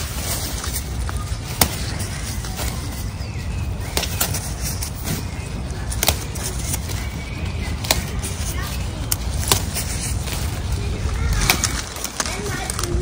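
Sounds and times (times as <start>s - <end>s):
rustling through undergrowth: 0.0s - 13.0s
steady low rumble: 0.0s - 13.0s
twigs snapping: 0.0s - 13.0s.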